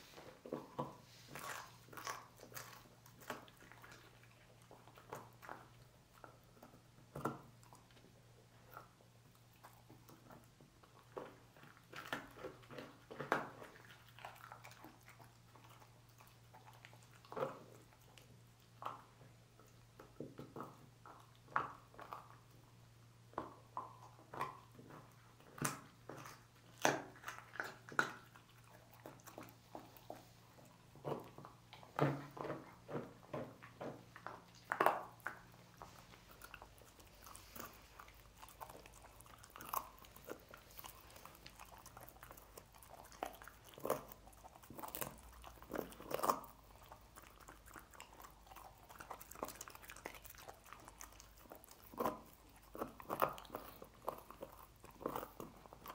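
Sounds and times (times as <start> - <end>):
faint low hum: 0.0 - 55.9
dog crunching bones: 0.2 - 55.9.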